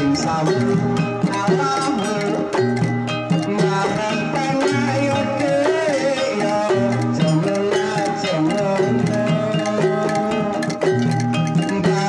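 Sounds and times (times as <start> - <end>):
hand drum rhythm: 0.0 - 12.0
keyed percussion instruments: 0.0 - 12.0
pitch-bending melody line: 0.0 - 12.0.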